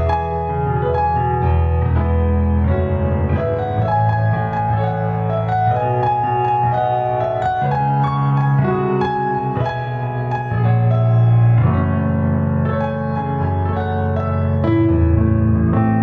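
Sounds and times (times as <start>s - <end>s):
piano music with low bass line: 0.0s - 16.0s.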